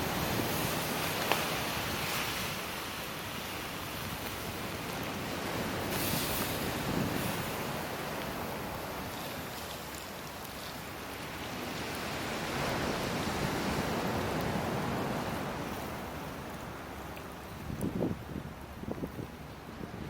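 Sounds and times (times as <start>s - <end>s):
fire crackles: 0.0s - 20.0s
fire flames rushing: 0.0s - 20.0s.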